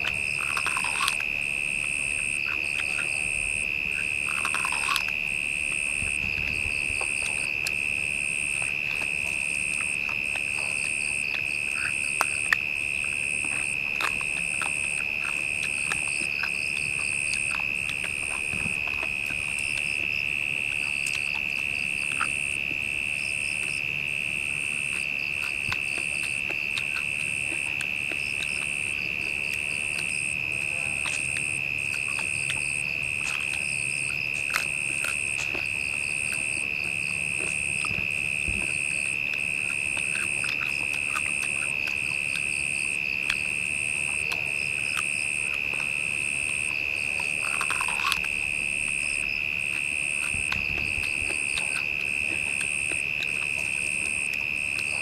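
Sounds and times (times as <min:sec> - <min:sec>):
high-pitched insect drone: 0:00.0 - 0:55.0
insect chirp: 0:00.0 - 0:55.0
insect trills: 0:00.0 - 0:55.0.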